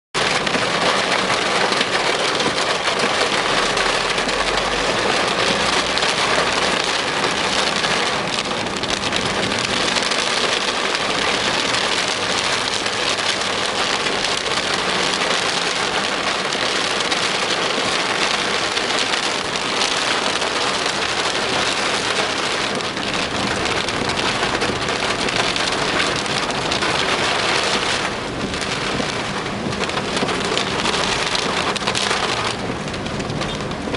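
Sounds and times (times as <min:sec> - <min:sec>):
heavy rain pouring: 0:00.2 - 0:33.9.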